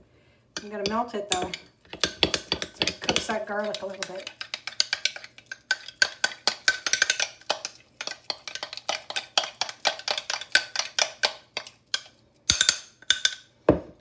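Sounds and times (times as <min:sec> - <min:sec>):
spoon clinking in a dish: 0:00.6 - 0:13.5.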